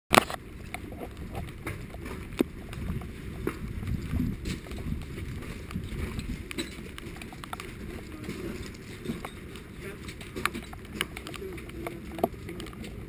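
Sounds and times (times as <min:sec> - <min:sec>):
footsteps on wet gravel: 0:00.1 - 0:13.0.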